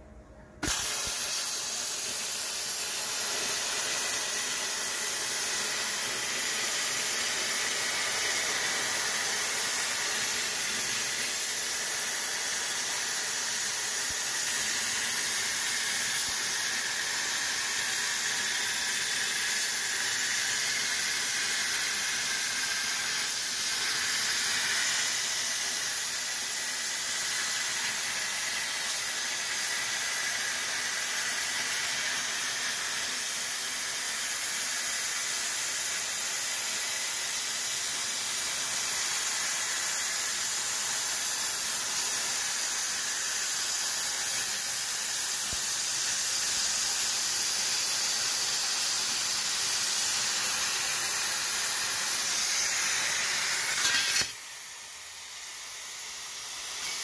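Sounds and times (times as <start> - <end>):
plasma cutter hissing: 0.6 - 57.0.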